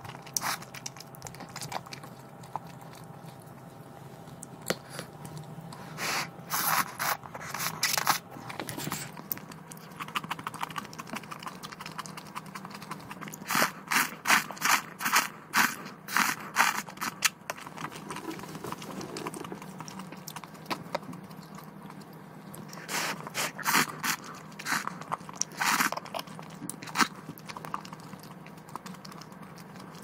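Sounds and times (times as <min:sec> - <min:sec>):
noodles slurped: 0:00.0 - 0:03.6, 0:04.8 - 0:22.0, 0:22.6 - 0:30.0
chewing: 0:00.0 - 0:30.0.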